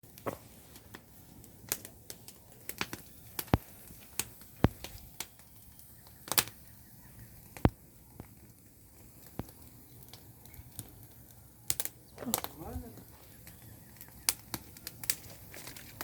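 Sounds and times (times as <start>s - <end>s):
wood bonfire crackling: 0.0s - 16.0s
sharp pops and cracks: 0.1s - 6.7s, 7.3s - 16.0s.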